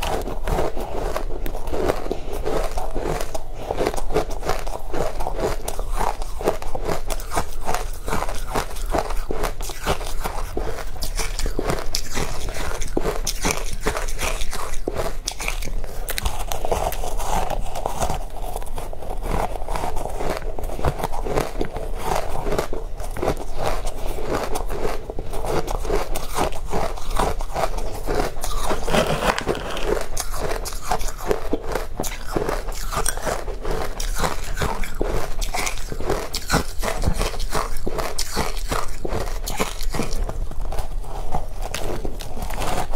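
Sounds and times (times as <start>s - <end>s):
crunching frozen ice: 0.0s - 42.9s.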